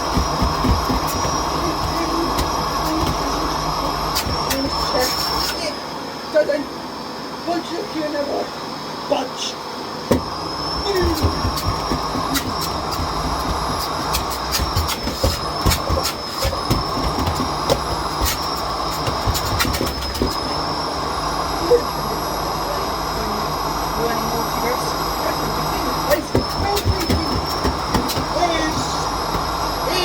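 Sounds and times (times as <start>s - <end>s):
vacuum cleaner motor whine: 0.0s - 30.0s.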